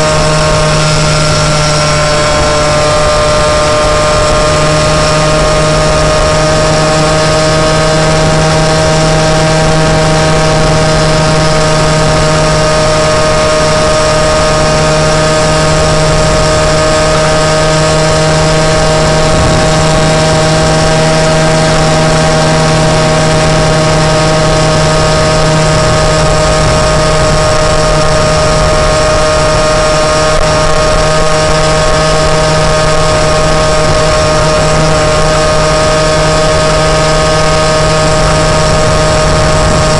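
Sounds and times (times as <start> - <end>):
moped engine running: 0.0 - 39.9.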